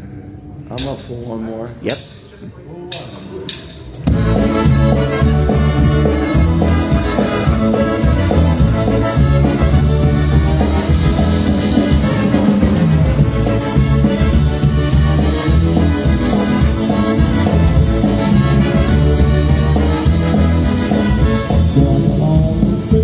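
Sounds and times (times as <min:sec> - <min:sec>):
polka band playing: 0:04.0 - 0:23.0.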